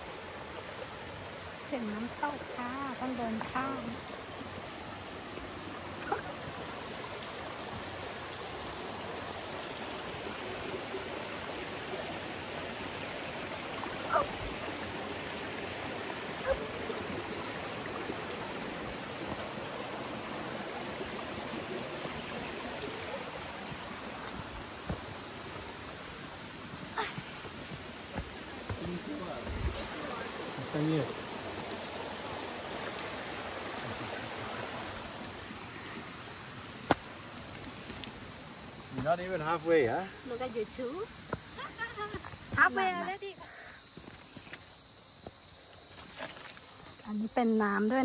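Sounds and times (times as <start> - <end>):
water rushing over rocks: 0.0 - 43.2.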